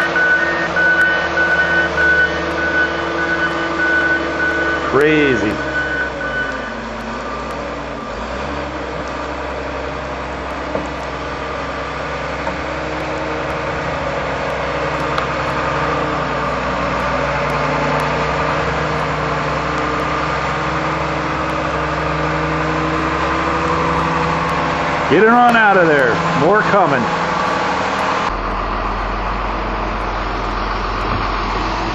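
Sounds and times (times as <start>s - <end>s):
heavy vehicle engine running: 0.0s - 31.9s.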